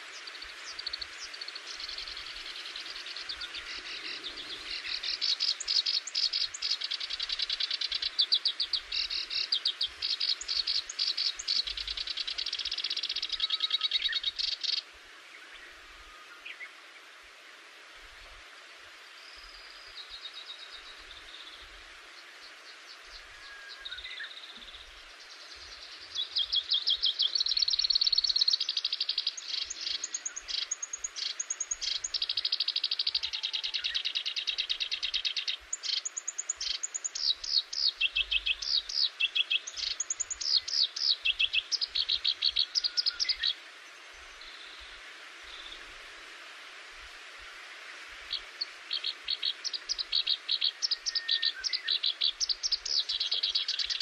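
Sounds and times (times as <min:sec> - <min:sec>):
songbird trilling song: 0:00.0 - 0:15.7, 0:22.4 - 0:45.9, 0:48.3 - 0:54.0
steady background hiss: 0:00.0 - 0:54.0.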